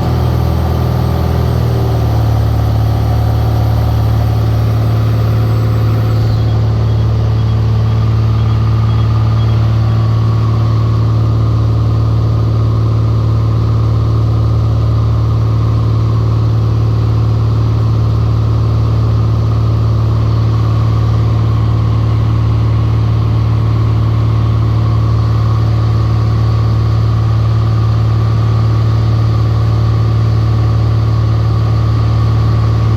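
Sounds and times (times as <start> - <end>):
propeller plane engine drone: 0.0 - 32.9.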